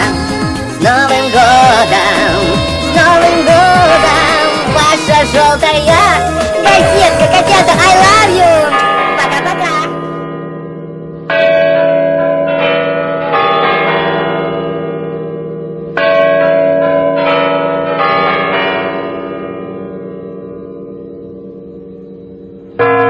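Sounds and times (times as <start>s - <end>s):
bells ringing: 0.0s - 23.0s.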